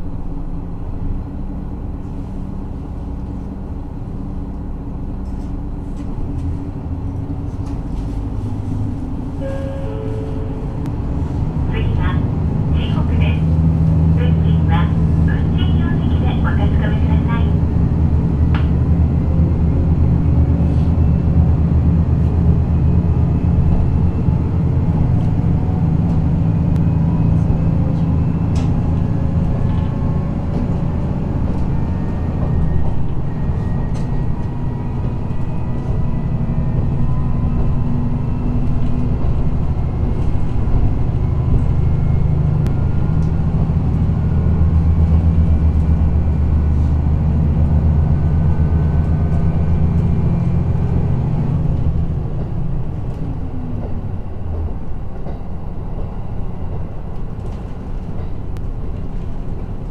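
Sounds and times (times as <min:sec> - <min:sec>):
diesel engine drone: 0:00.0 - 0:59.9
wheels rumbling on rails: 0:00.0 - 0:59.9.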